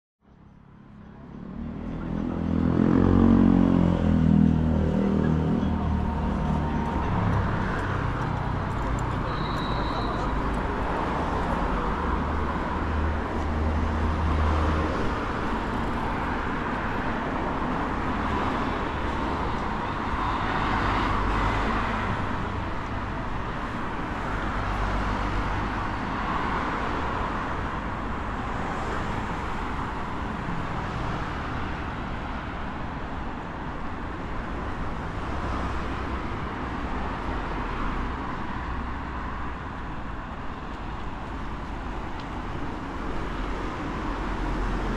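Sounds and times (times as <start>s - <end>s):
cars passing: 0.5s - 44.9s.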